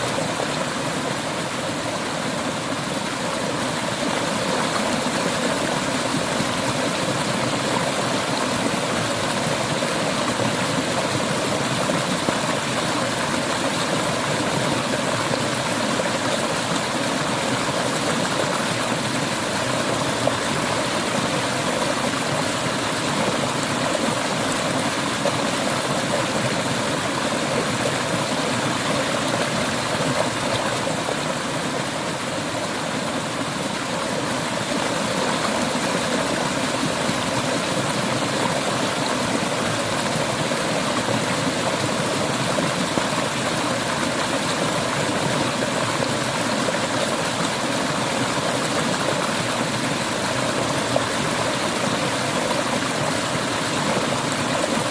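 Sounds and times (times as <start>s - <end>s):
river water flowing over rocks: 0.0s - 54.9s.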